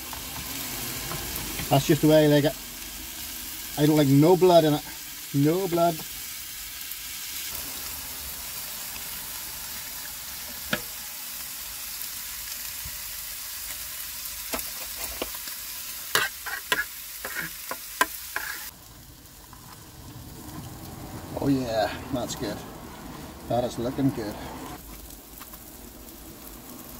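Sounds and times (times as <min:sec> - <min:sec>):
food sizzling in a frying pan: 0:00.0 - 0:26.9.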